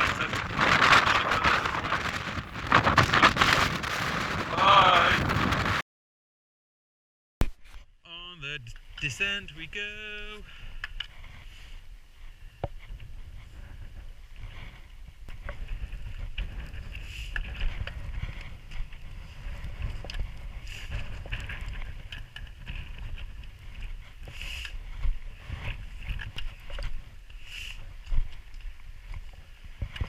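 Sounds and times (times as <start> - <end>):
wind buffeting microphone: 0.0 - 5.8, 10.5 - 30.0.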